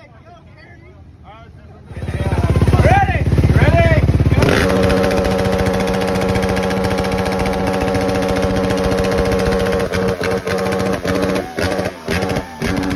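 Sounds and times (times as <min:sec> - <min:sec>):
quad engine idling: 0:01.9 - 0:12.9.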